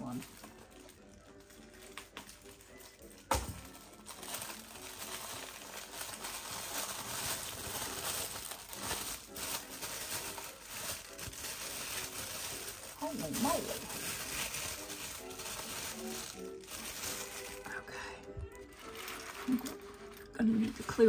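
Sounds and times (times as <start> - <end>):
packing wrapping crinkling: 0.0 - 21.0.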